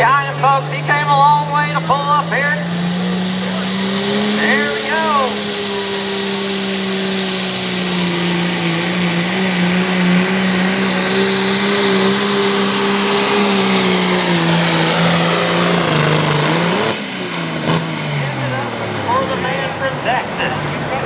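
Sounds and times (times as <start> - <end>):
diesel tractor engine under full load: 0.0 - 21.0.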